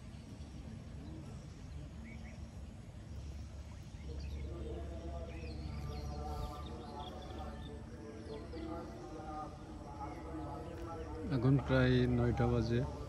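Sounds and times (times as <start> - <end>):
faint bird chirps: 0.0 - 13.0
distant voice: 0.5 - 13.0.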